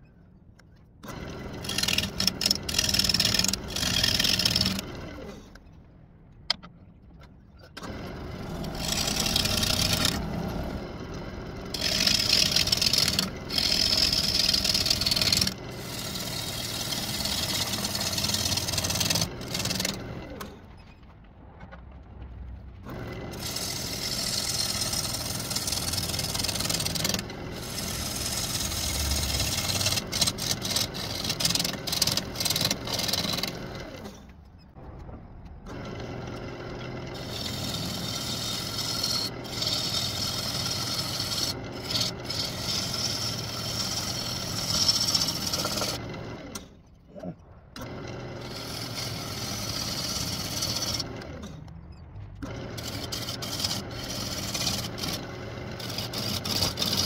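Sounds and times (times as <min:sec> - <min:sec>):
lathe tool scraping wood: 0:01.0 - 0:05.6, 0:07.8 - 0:20.6, 0:22.9 - 0:34.2, 0:35.9 - 0:51.6, 0:52.4 - 0:57.0
low hum of lathe: 0:01.0 - 0:05.7, 0:07.8 - 0:20.7, 0:22.8 - 0:34.8, 0:35.7 - 0:51.8, 0:52.4 - 0:57.0.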